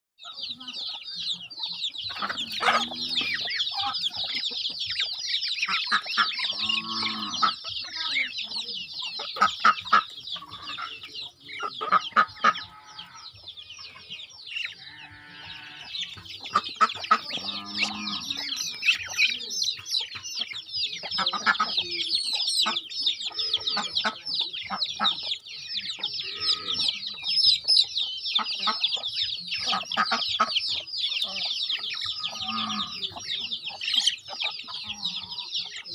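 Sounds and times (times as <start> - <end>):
chickens clucking: 0.2 - 35.9
chicks peeping: 0.2 - 35.9.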